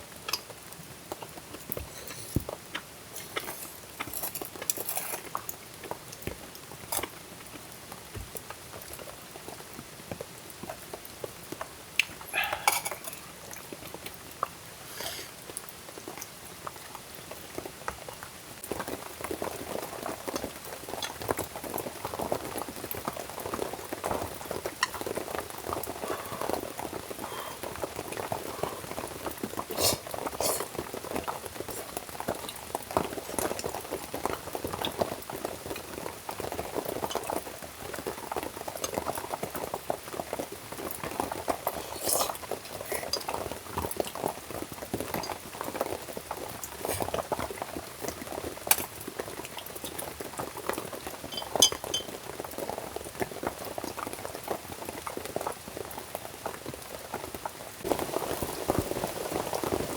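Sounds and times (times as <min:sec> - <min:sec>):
liquid bubbling in a pan: 0:11.6 - 0:59.9.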